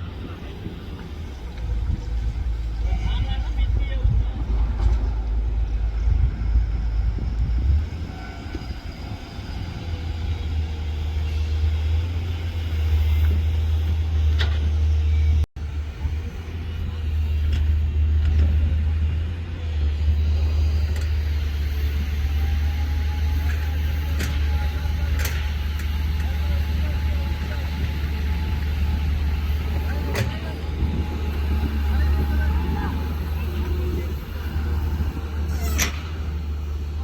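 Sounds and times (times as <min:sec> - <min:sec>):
diesel truck engine rumbling: 0:00.0 - 0:37.0.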